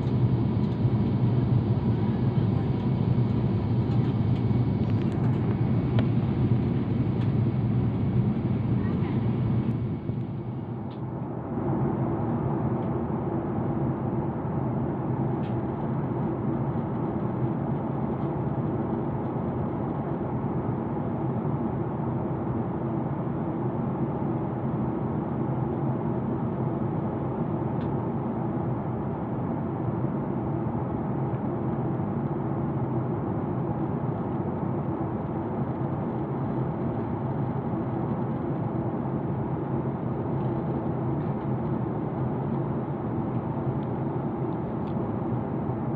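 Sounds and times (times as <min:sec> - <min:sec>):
airliner cabin drone: 0:00.0 - 0:45.9.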